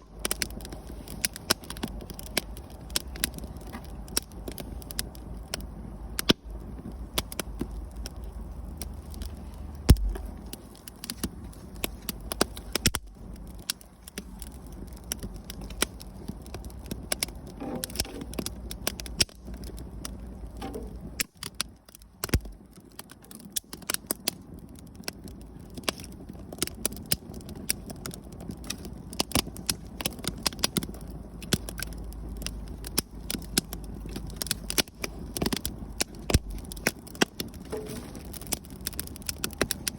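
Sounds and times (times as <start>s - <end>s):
low steady rumble: 0.0s - 23.1s, 24.4s - 39.9s
campfire crackling: 0.0s - 39.9s.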